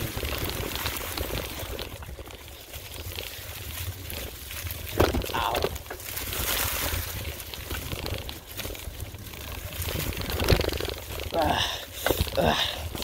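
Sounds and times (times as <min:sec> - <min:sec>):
bike rattling: 0:00.0 - 0:13.0
tyres crunching on dirt: 0:00.0 - 0:13.0.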